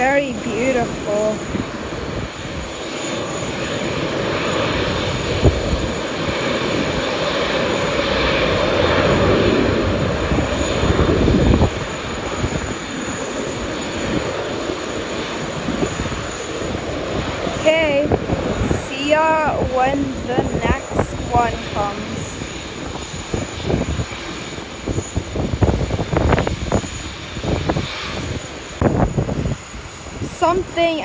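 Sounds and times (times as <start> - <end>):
jet engine noise: 0.0 - 31.0.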